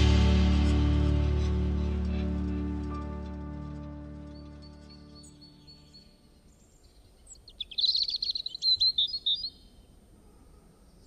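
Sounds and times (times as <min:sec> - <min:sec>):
faint outdoor background: 0:00.0 - 0:11.0
songbird twittering chirps: 0:00.6 - 0:10.1.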